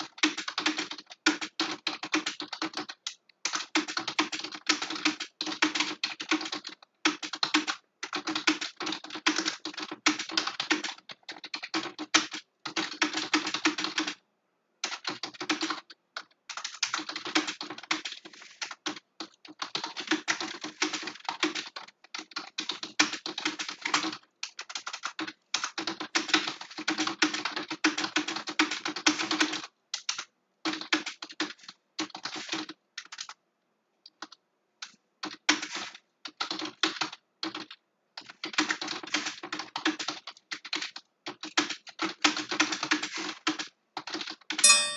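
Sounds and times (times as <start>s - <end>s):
fast typing on a keyboard: 0.0s - 14.2s, 14.8s - 33.4s, 34.0s - 44.9s.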